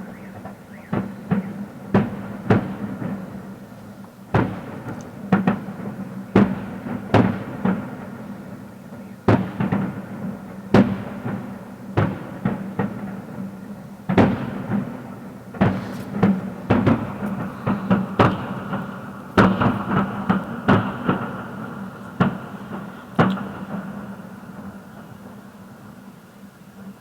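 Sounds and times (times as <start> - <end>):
fireworks bangs with echo: 0.0 - 26.0.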